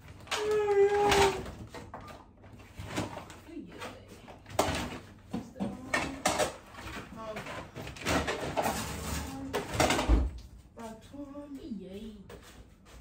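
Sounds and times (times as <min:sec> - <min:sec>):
items and cupboard doors clattering: 0:00.0 - 0:10.5.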